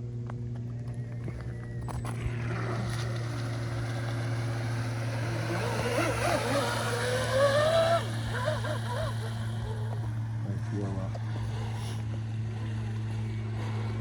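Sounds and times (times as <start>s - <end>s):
electric motors and propellers whining: 0.0s - 14.0s.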